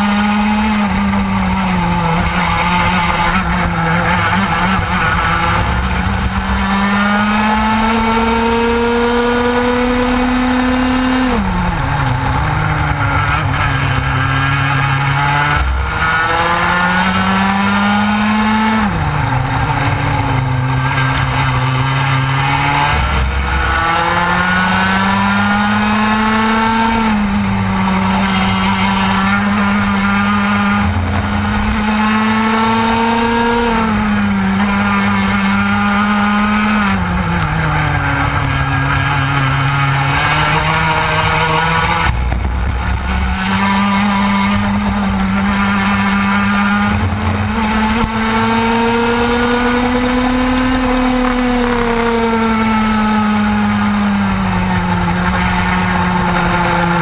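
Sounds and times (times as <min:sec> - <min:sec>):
kart two-stroke engine racing: 0:00.0 - 0:57.0.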